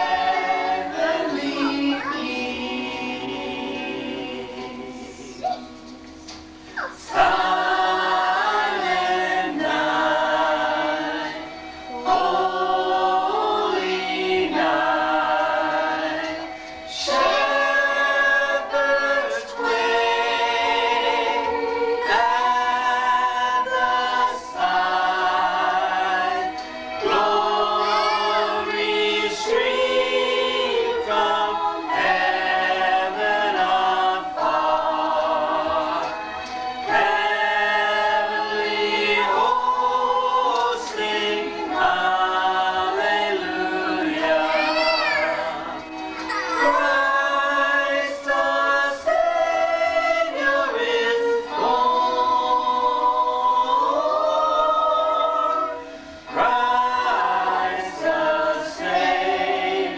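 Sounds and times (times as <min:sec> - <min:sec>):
group singing a cappella: 0:00.0 - 0:59.9.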